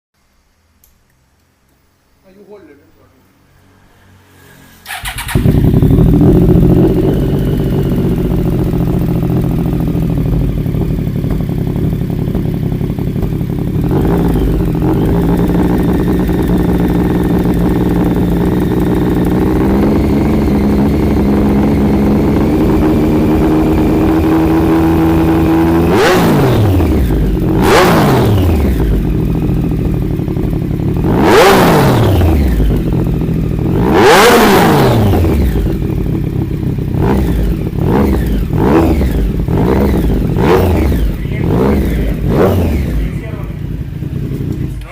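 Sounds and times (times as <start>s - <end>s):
motorcycle throttle revs: 4.3s - 44.9s
motorcycle engine idling: 4.8s - 44.9s.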